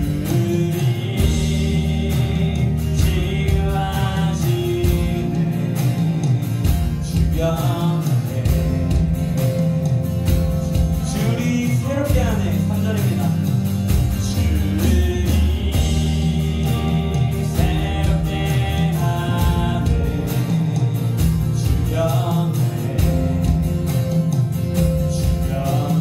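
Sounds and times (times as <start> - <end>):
worship band playing: 0.0 - 26.0.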